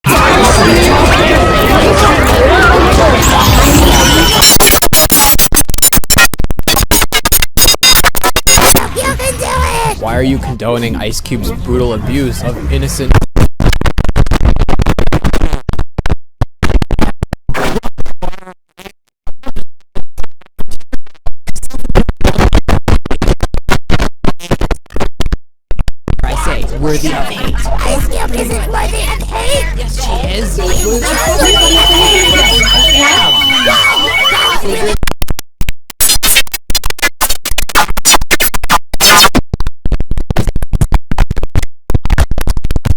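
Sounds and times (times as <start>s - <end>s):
record scratch effect: 0.1s - 10.5s, 12.1s - 25.3s, 26.1s - 35.1s, 35.9s - 39.4s
chopped stuttering audio: 2.9s - 10.0s, 13.0s - 26.4s, 27.3s - 42.9s.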